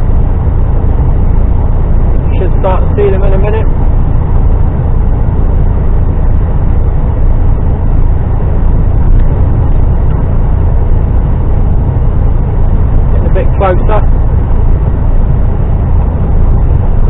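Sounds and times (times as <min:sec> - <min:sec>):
diesel truck engine rumble: 0:00.0 - 0:17.0
road noise: 0:00.0 - 0:17.0.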